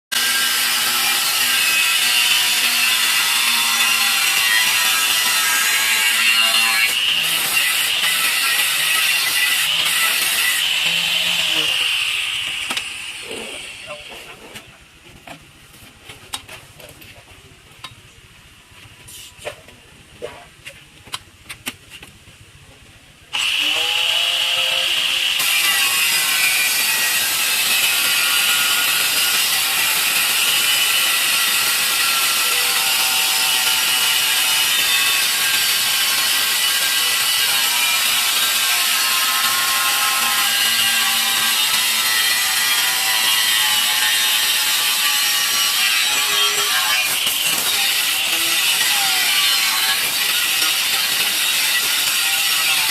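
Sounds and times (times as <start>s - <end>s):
tile saw whining and grinding: 0.1s - 14.7s, 23.3s - 52.9s.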